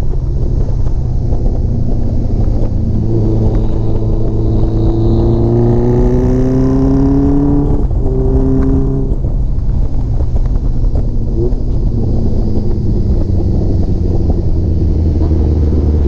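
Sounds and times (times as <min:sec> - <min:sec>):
motorcycle engine accelerating: 0:00.0 - 0:16.0
wind rush on microphone: 0:00.0 - 0:16.0.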